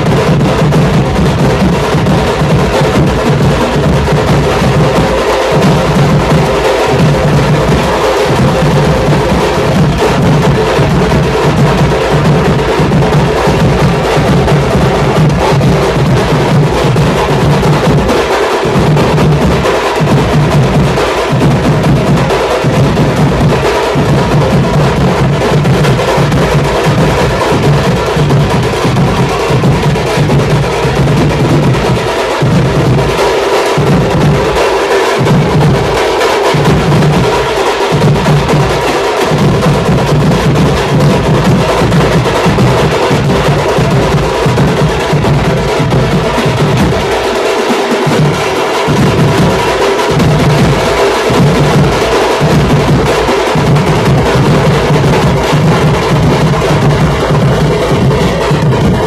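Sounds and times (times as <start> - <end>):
bass drum beats: 0.0 - 59.0
side drums playing fast beat: 0.0 - 59.0.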